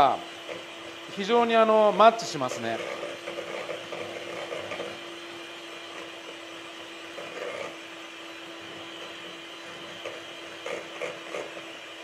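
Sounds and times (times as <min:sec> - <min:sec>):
electric hand mixer whisking: 0:00.0 - 0:12.0.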